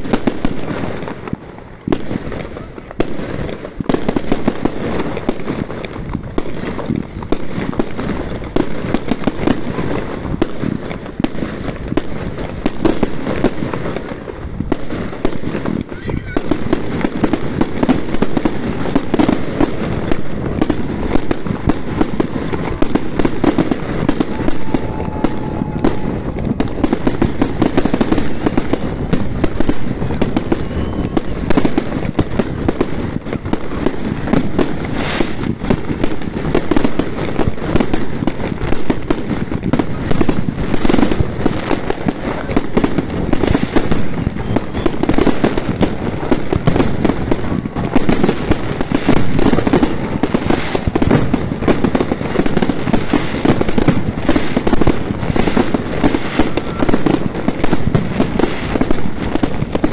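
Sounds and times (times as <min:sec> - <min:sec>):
fireworks crackling and banging: 0:00.0 - 0:59.9.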